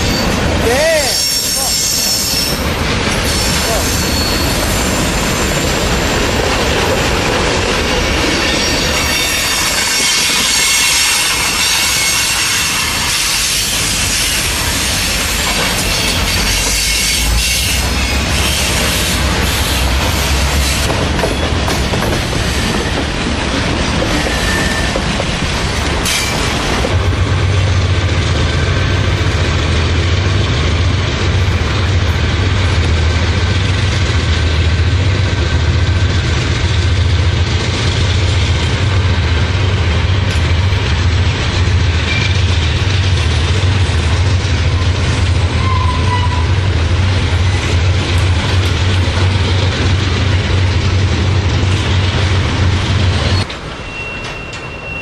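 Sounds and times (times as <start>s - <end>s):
train rolling past: 0.0s - 55.0s.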